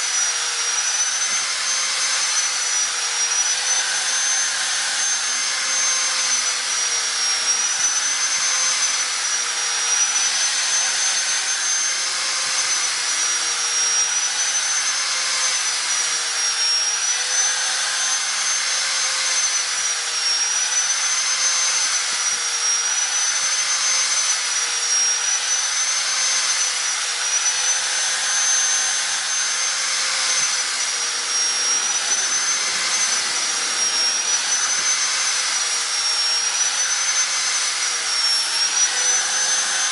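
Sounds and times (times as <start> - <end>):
small electric motor whining: 0.0 - 39.9.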